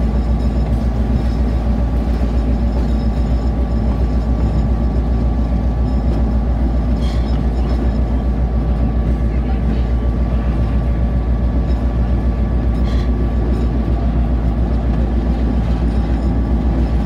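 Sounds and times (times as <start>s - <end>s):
diesel locomotive engine rumbling: 0.0s - 17.0s
moving train noise: 0.0s - 17.0s.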